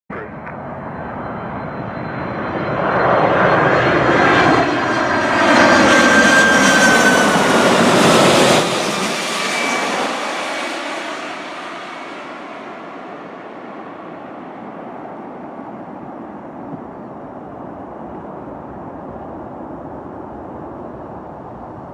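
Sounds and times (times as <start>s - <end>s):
high engine whine: 0.1s - 21.9s
jet engines passing by: 0.1s - 21.9s.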